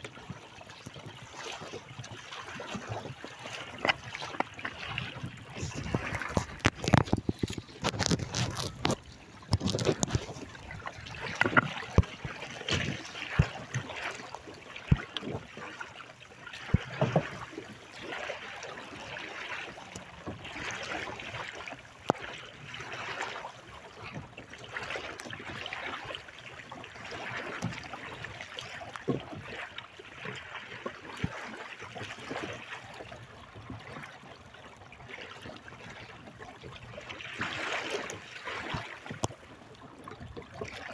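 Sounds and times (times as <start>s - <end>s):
water splashing along hull: 0.0s - 40.9s.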